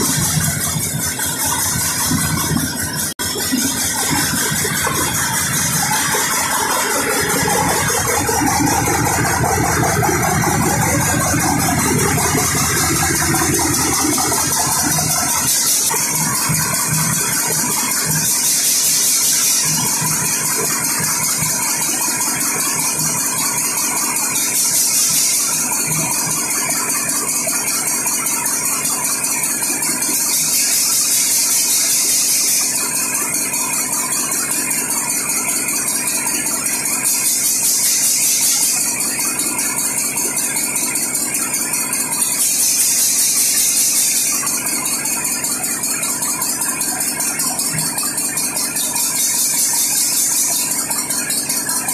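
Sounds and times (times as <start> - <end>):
diesel engine clattering: 0.0 - 51.9.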